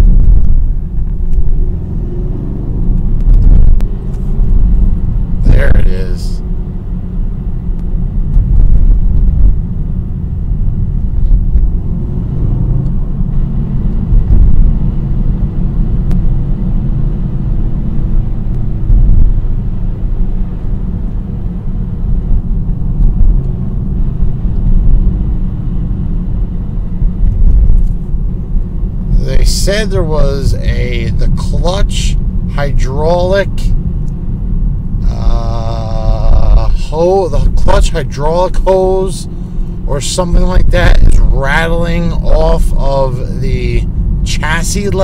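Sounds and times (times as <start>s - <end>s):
car cabin rumble: 0.0s - 45.0s.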